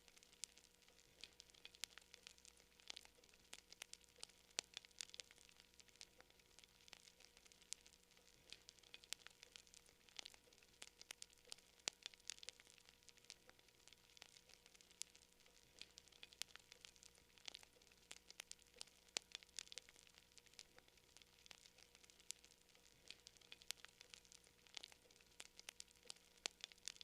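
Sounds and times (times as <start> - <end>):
campfire crackling and popping: 0.0 - 27.0
faint hiss: 0.0 - 27.0.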